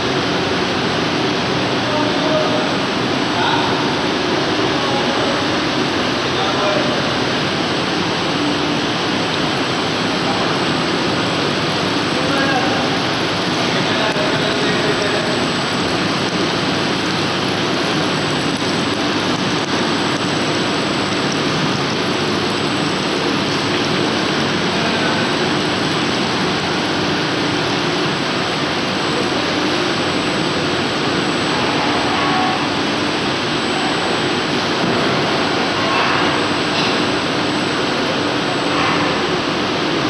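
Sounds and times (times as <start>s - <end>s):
machinery running: 0.0s - 40.0s
water running and spilling: 0.0s - 40.0s.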